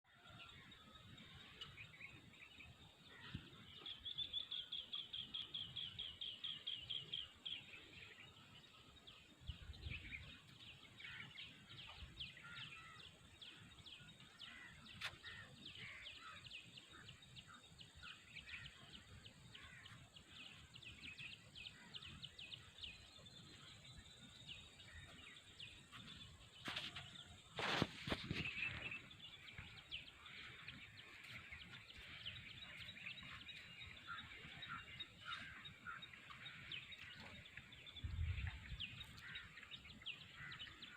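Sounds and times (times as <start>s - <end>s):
birds chirping: 0.1s - 40.9s.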